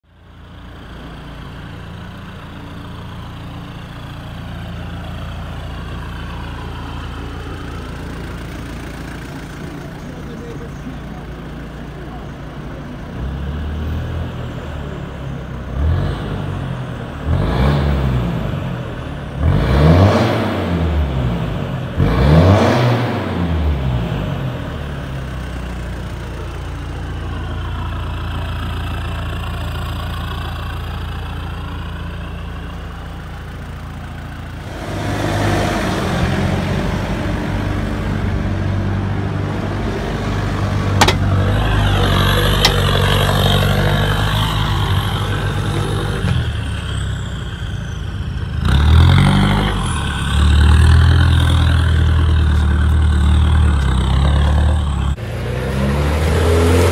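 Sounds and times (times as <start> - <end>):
diesel engine idling: 0.0 - 17.4, 23.5 - 55.6
vehicle driving: 0.0 - 56.9
diesel engine revving: 0.4 - 56.9.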